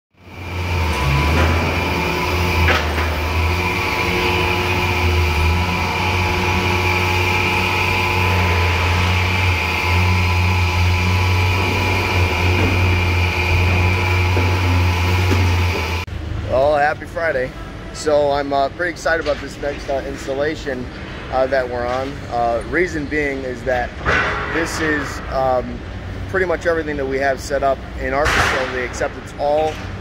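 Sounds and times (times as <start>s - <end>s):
high-pitched machine whine: 0.2s - 28.2s
machinery low hum: 0.2s - 30.0s.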